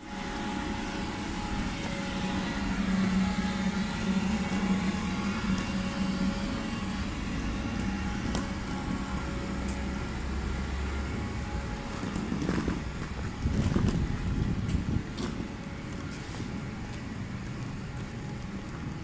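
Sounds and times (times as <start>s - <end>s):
street hum and rumble: 0.0s - 19.0s.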